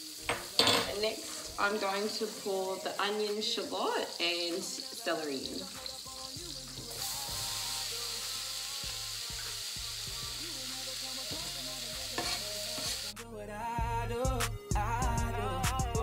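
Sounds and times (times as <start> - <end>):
vegetables sizzling in hot fat: 0.0 - 13.2
music: 0.0 - 16.0.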